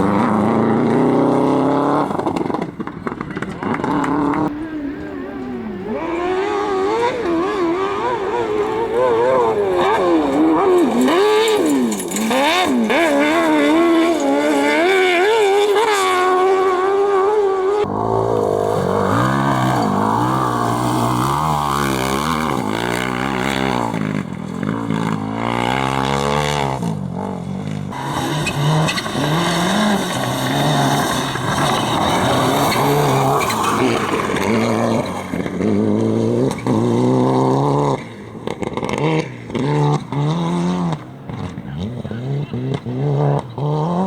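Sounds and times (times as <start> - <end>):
engine revving hard: 0.0 - 2.4, 5.2 - 44.0.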